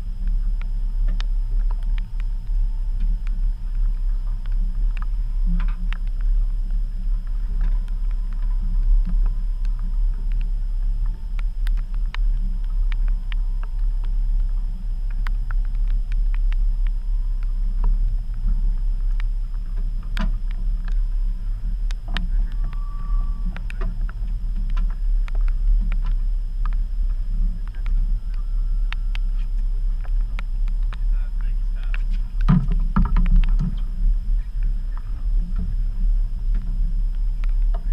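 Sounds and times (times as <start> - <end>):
outboard motor droning: 0.0 - 37.9.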